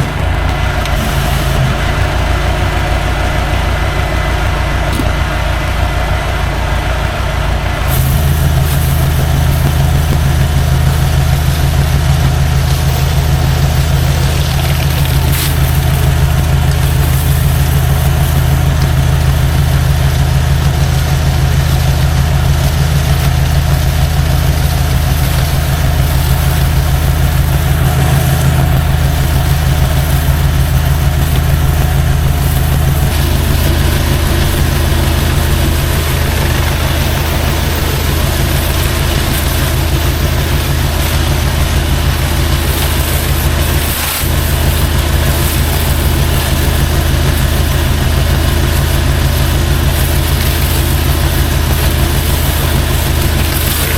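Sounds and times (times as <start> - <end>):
water spray hissing: 0.0 - 2.4, 7.8 - 53.9
pressure washer engine drone: 0.0 - 53.9.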